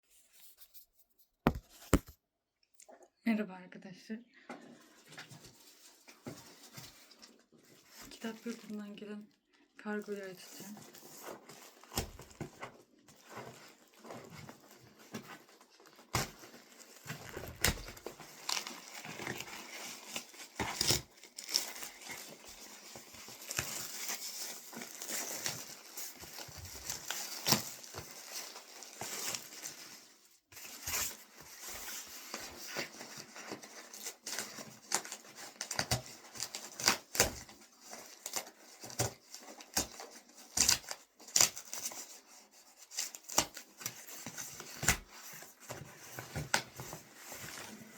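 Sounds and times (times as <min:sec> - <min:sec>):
packaging crinkling and tearing: 0:05.3 - 0:09.0, 0:10.0 - 0:47.9.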